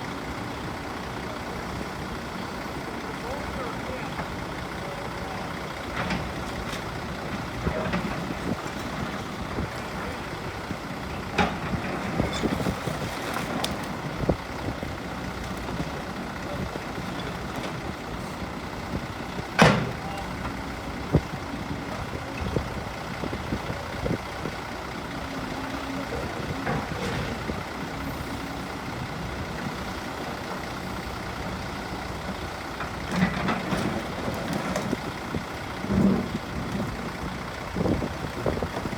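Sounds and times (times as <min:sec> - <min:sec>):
heavy machinery running: 0:00.1 - 0:38.9.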